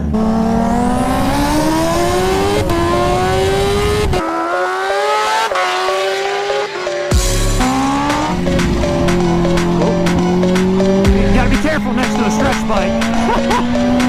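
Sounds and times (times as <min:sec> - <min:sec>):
engine accelerating hard: 0:00.0 - 0:14.0.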